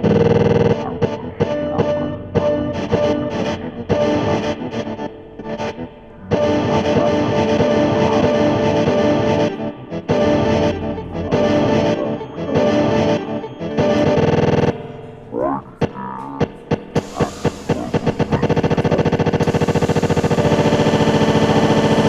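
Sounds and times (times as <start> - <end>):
distorted electric guitar: 0.0 - 22.0
throbbing pulses: 0.0 - 22.0.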